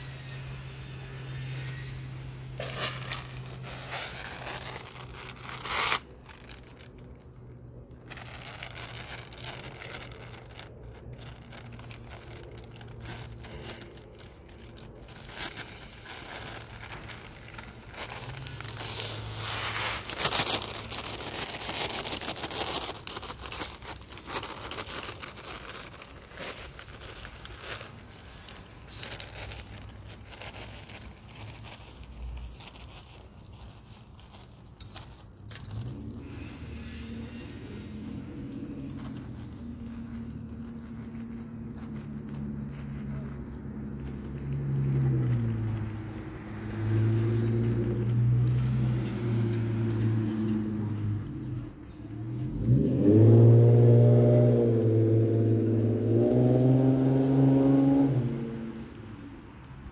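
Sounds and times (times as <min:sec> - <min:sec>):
plastic bag crinkling: 0:00.0 - 0:59.9.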